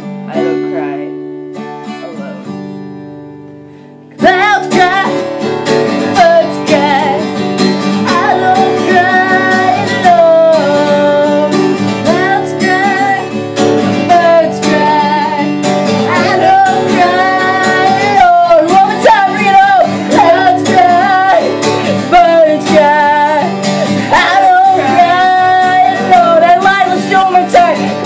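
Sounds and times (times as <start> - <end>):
acoustic guitar strumming: 0.0 - 28.0
wordless vocal melody: 4.2 - 28.0.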